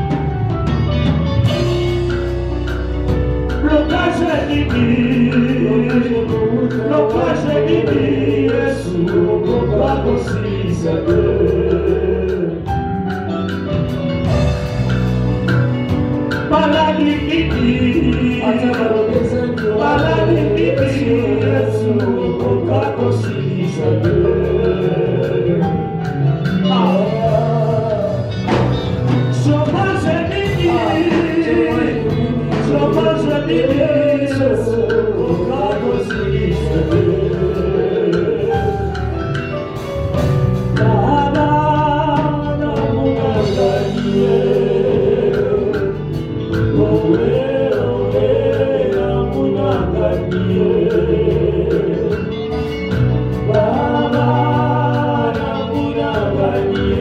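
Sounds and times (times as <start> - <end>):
band with bass and beat: 0.0 - 57.0
voices singing: 3.5 - 13.0, 16.3 - 39.6, 40.6 - 57.0.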